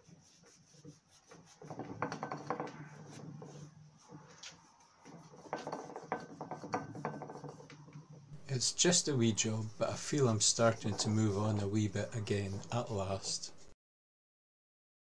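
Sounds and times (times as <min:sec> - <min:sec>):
hands rubbing metal crankcase: 0:00.0 - 0:13.7.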